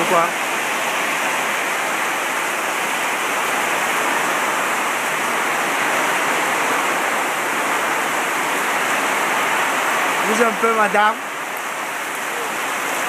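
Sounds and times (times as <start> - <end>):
steady rain pouring: 0.0 - 13.0.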